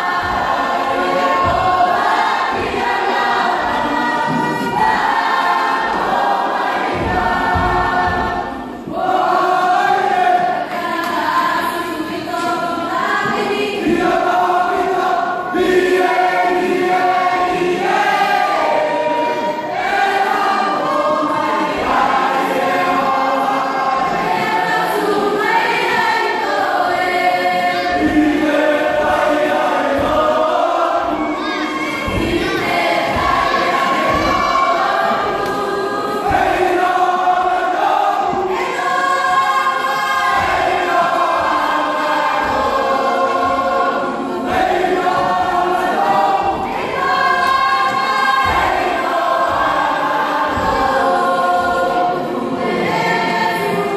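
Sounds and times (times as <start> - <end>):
group singing in harmony: 0.0 - 53.9.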